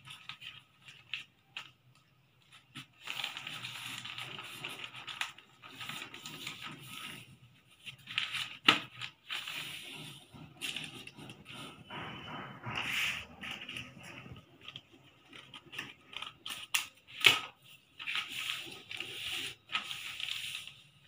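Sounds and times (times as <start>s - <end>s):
paper rustling on stone floor: 0.1s - 11.7s, 12.8s - 21.0s.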